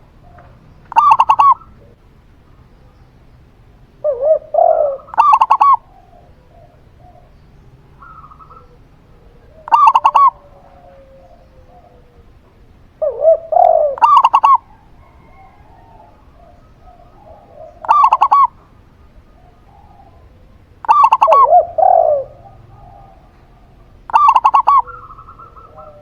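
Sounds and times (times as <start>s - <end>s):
higher clear dove coos: 0.0s - 2.1s, 4.0s - 26.0s
low burry dove coos: 0.0s - 2.1s, 4.0s - 26.0s.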